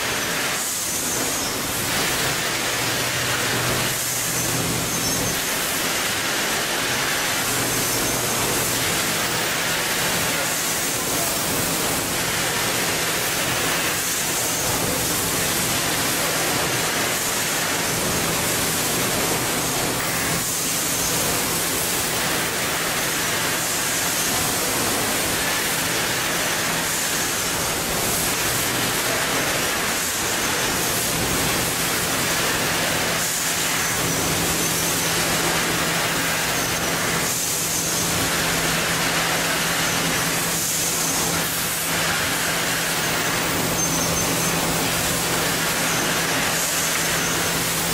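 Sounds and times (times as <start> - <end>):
packaging machinery hiss: 0.0 - 47.9.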